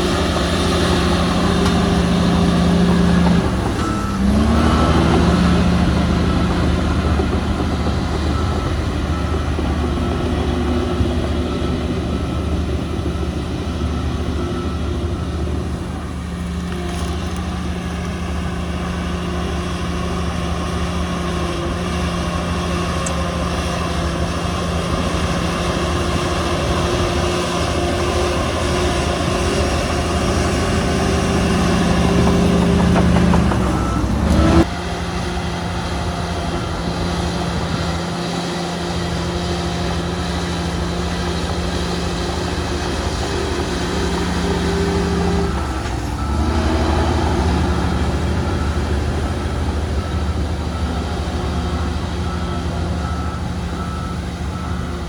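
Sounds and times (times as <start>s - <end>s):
diesel machinery engine revving: 0.0s - 55.0s.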